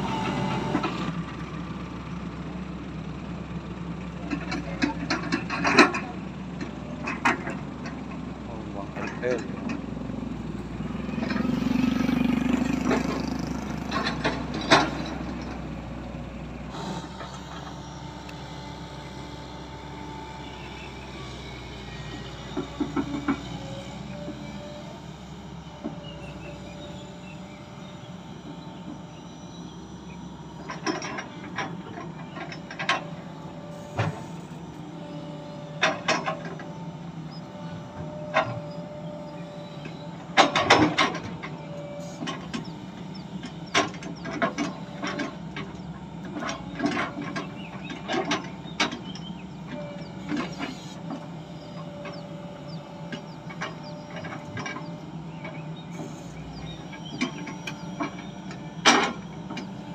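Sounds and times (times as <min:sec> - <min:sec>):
hydraulic whines: 0:00.0 - 0:01.6, 0:08.5 - 0:59.9
diesel engine humming: 0:00.0 - 0:59.9.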